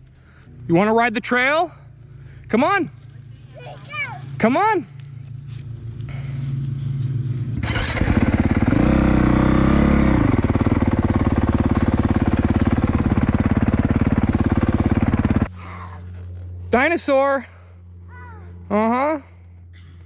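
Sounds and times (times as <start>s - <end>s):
dirt bike engine idling: 0.0s - 20.0s.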